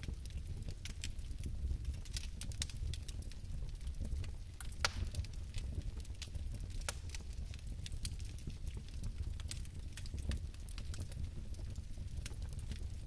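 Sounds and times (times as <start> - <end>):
fire crackling: 0.0 - 13.0
fireplace flames rumbling: 0.0 - 13.0.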